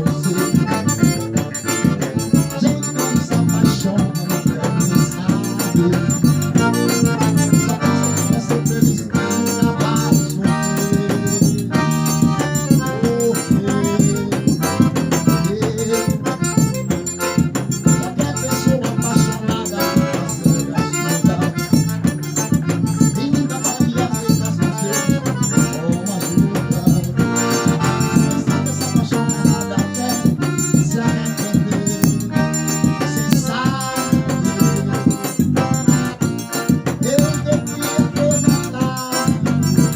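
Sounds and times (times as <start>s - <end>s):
band of pitched instruments: 0.0s - 39.9s
fast rattling percussion beat: 0.0s - 39.9s.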